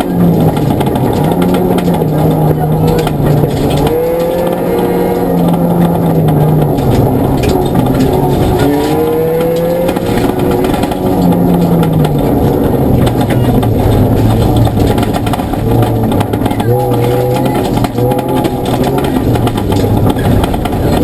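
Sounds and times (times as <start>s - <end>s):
rally car engine revving: 0.0s - 21.0s
road noise: 0.0s - 21.0s.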